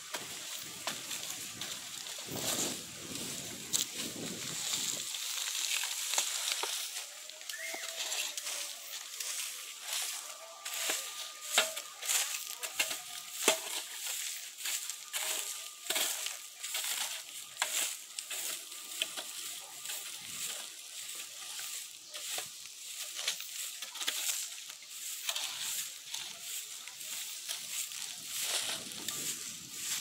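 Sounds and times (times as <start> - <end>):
shovel scraping soil: 0.0 - 30.0.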